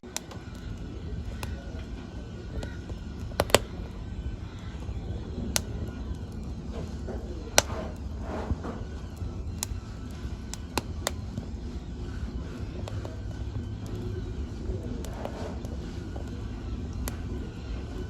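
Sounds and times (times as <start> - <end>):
fire crackling in fireplace: 0.0 - 18.0
sharp pops of fire: 0.0 - 18.0.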